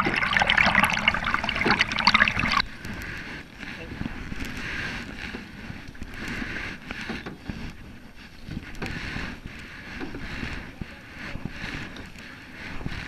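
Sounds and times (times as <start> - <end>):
paddle swishing through water: 0.0 - 13.0
wind rumbling on microphone: 0.0 - 13.0.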